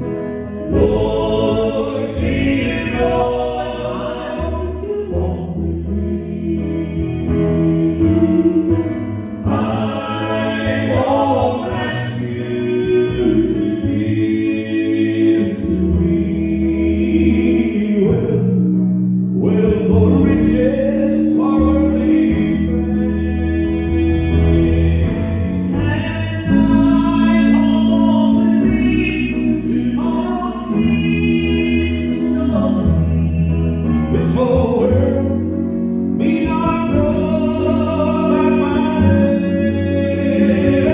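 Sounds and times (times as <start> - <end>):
instrumental accompaniment: 0.0 - 40.9
voices singing gospel in harmony: 0.0 - 40.9.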